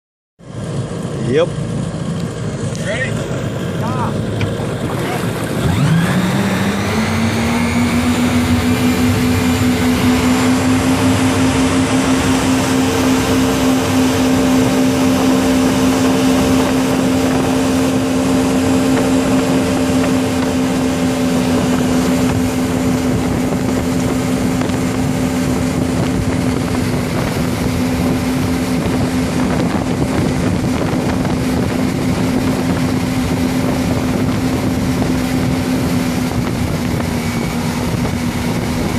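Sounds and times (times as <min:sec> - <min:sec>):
motorboat engine accelerating: 0:00.4 - 0:38.9
rushing wake and wind: 0:00.4 - 0:38.9.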